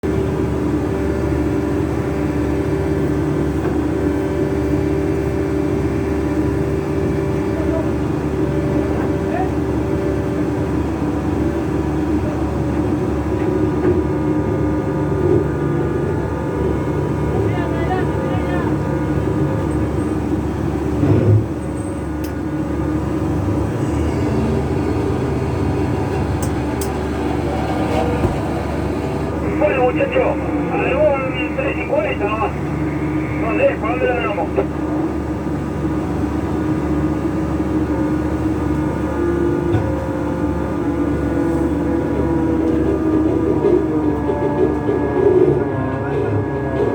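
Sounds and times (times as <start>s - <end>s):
boat engine running: 0.0s - 46.9s
machinery droning: 0.1s - 46.9s.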